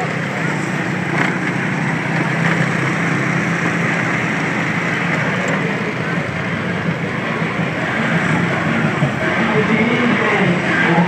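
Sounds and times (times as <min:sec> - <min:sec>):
moped engine running: 0:00.0 - 0:11.0
wind and road noise: 0:00.0 - 0:11.0.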